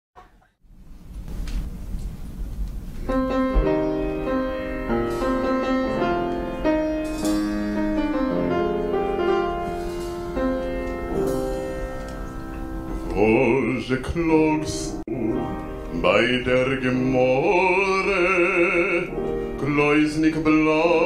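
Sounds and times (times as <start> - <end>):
low room rumble: 0.2 - 21.0
slow piano chords: 2.9 - 21.0.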